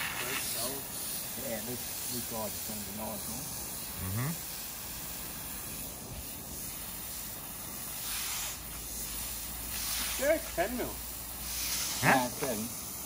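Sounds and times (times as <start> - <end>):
hose spraying water on concrete: 0.0 - 13.0.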